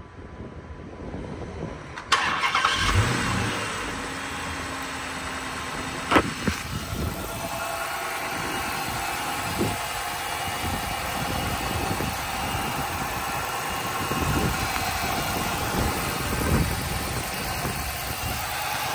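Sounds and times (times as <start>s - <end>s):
car engine idling: 2.0s - 18.9s.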